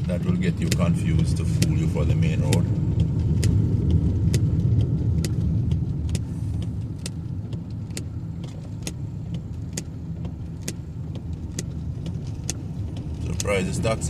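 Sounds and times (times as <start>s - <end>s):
heavy rain on car: 0.0s - 14.0s
road and engine rumble: 0.0s - 14.0s
sharp clicks: 0.6s - 14.0s.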